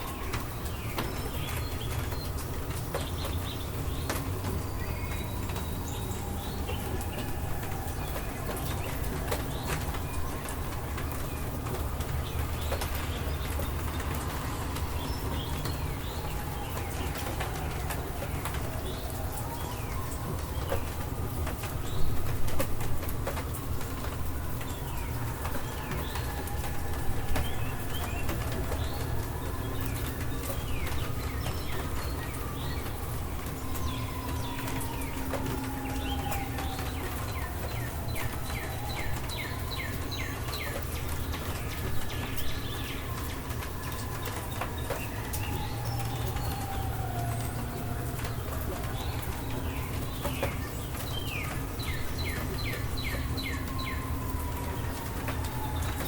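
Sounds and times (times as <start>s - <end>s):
low rumble of rain: 0.0s - 56.0s
raindrops ticking: 0.0s - 56.0s
small birds chirping: 0.0s - 56.0s
songbird singing: 0.0s - 56.0s.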